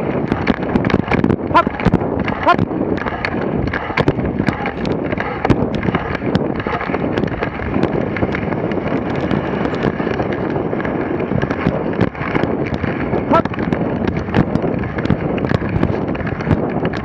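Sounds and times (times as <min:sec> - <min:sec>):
sharp clicks and crackles: 0:00.0 - 0:17.0
sled runners scraping on snow: 0:00.0 - 0:17.0
wind noise on microphone: 0:00.0 - 0:17.0.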